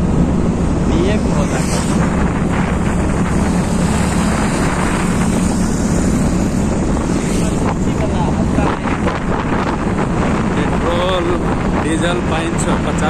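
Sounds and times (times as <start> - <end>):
motorcycle engine drone: 0.0 - 13.0
road noise: 0.0 - 13.0
wind rushing over microphone: 0.0 - 13.0.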